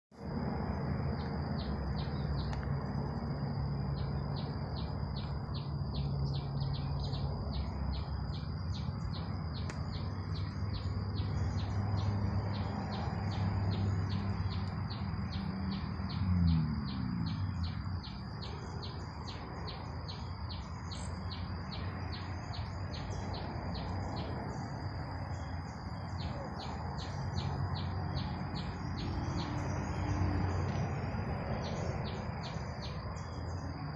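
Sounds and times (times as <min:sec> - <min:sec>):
low outdoor rumble: 0:00.2 - 0:33.9.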